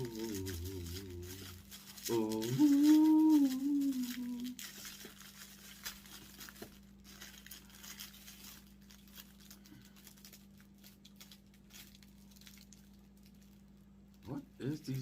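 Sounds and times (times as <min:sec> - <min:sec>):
packaging crinkling: 0:00.0 - 0:14.3
low electrical hum: 0:00.0 - 0:15.0.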